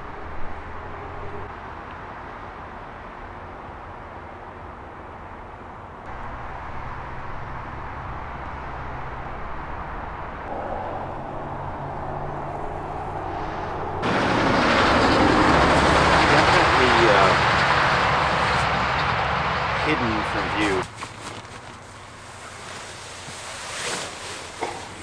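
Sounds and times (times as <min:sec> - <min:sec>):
loud wide rush of noise: 0:00.0 - 0:20.8
distant road traffic drone: 0:00.0 - 0:25.0.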